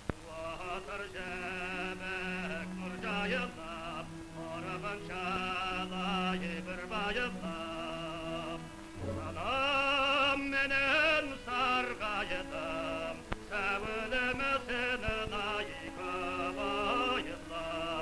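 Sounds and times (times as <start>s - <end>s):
opera singing with vibrato: 0.0s - 18.0s.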